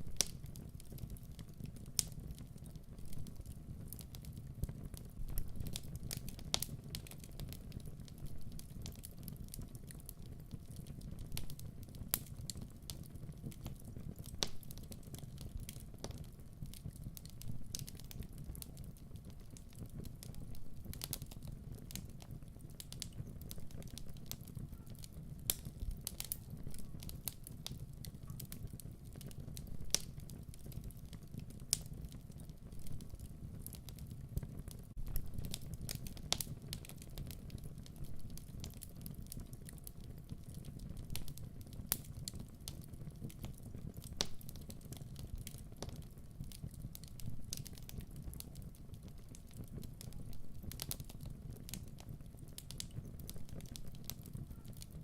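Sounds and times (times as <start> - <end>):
wood fire crackling in fireplace: 0.0 - 55.0.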